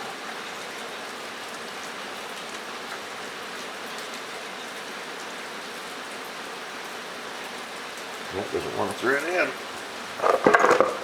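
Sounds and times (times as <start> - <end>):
rain drumming on a metal roof: 0.0 - 11.0.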